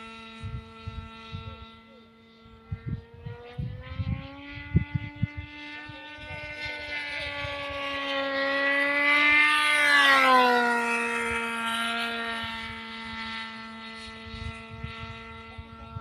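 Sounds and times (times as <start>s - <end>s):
model plane engine high-pitched: 0.0s - 16.0s.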